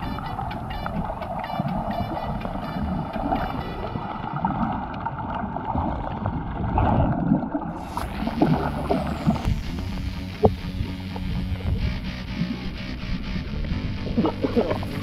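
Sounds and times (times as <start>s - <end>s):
underwater water rumble and sloshing: 0.0s - 15.0s.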